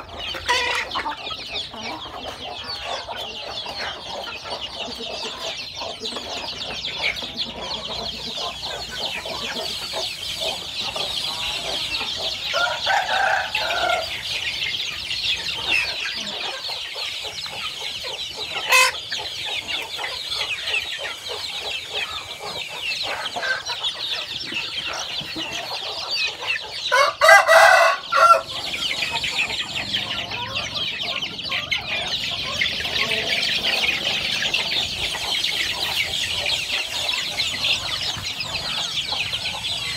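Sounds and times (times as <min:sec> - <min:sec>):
adult chickens calling: 0:00.0 - 0:39.9
chicks peeping: 0:00.0 - 0:39.9.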